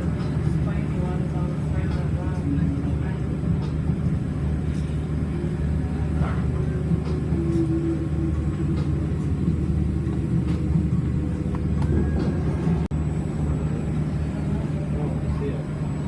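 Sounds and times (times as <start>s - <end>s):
submarine machinery humming: 0.0s - 16.0s.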